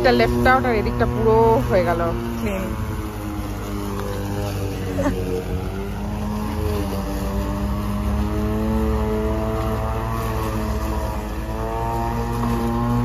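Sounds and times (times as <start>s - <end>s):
electric lawn mower motor whine: 0.0s - 13.0s.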